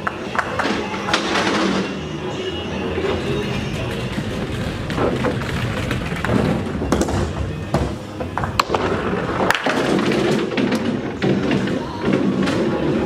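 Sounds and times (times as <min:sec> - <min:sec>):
background music: 0:00.0 - 0:13.0
bowling alley noise: 0:00.0 - 0:13.0
bowling ball rolling: 0:00.3 - 0:13.0
bowling pins clattering: 0:00.3 - 0:13.0.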